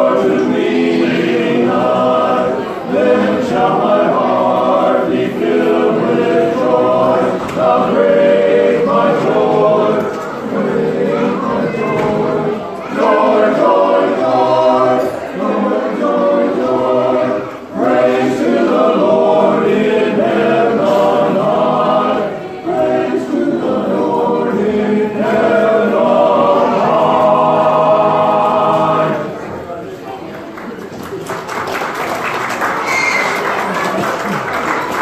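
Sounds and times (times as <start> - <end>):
men's chorus singing a cappella: 0.0 - 29.4.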